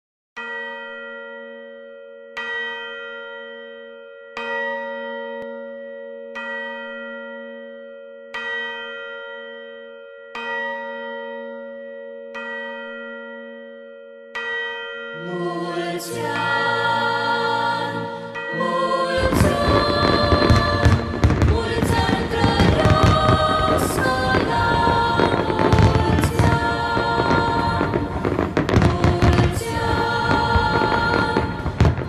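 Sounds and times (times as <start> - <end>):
large bell tolling: 0.4 - 32.0.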